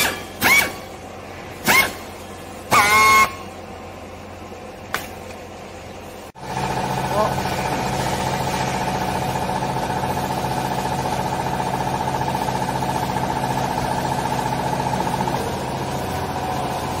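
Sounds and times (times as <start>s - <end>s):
hydraulic pump motor droning: 0.0s - 5.8s, 6.4s - 17.0s.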